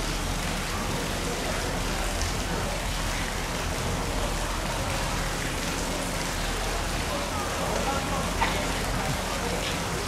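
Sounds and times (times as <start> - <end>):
falling water rushing: 0.0 - 10.0.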